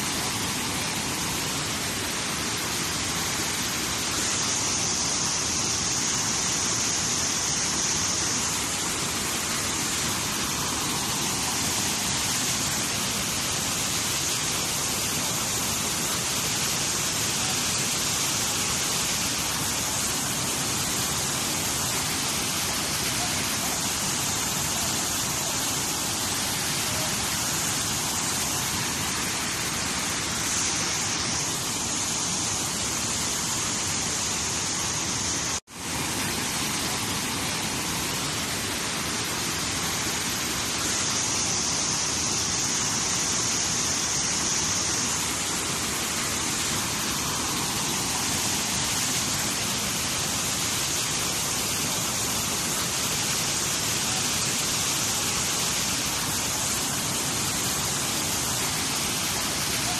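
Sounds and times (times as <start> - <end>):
floodwater rushing over waterfall: 0.0 - 59.9.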